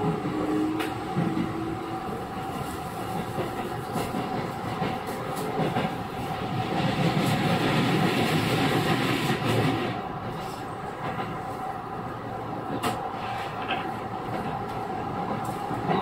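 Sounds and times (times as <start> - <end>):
rail joint clicks: 0.0 - 11.5, 12.6 - 16.0
train running rumble: 0.0 - 16.0.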